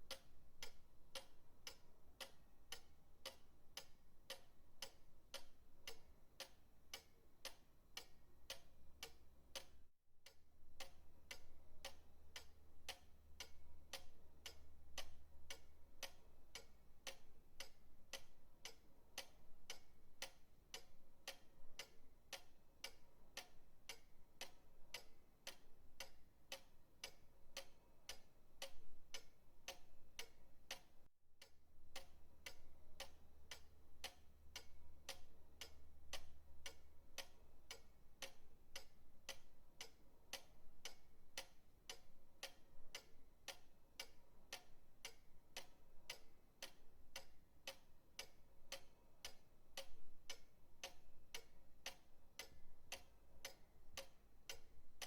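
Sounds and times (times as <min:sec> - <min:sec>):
pendulum clock ticking: 0:00.0 - 0:55.0.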